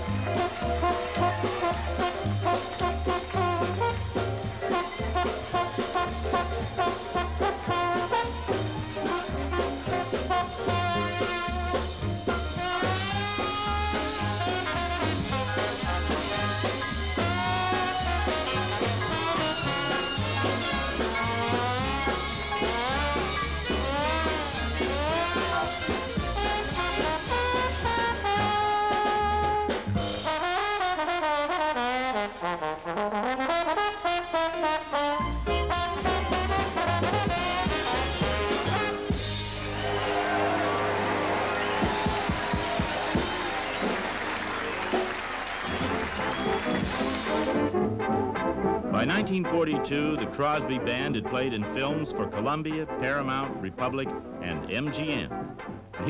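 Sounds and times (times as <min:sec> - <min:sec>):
swing jazz band playing: 0:00.0 - 0:56.0
trombone solo: 0:00.0 - 0:56.0.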